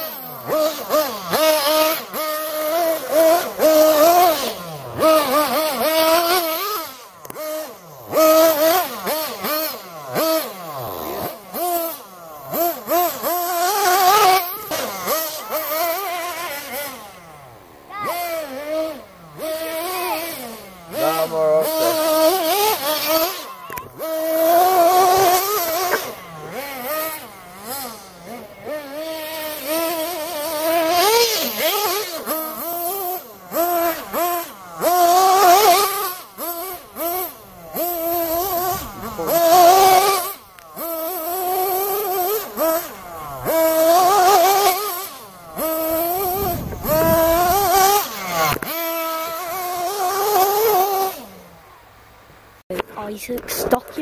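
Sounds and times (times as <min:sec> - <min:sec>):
small nitro engines buzzing: 0:00.0 - 0:54.0.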